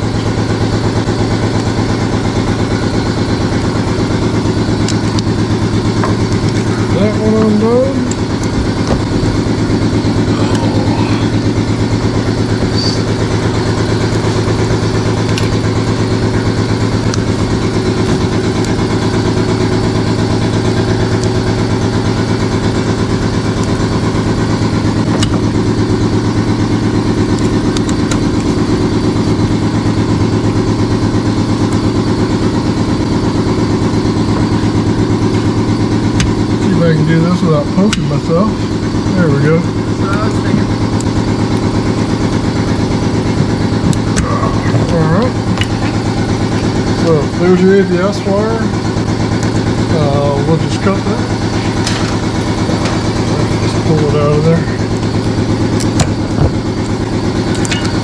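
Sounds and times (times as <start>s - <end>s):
motor throbbing: 0.0s - 58.0s.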